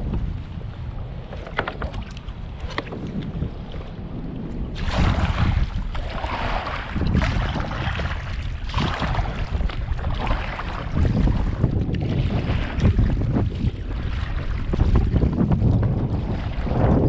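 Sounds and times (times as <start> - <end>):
water splashing against kayak: 0.0 - 17.0
wind buffeting microphone: 0.0 - 17.0.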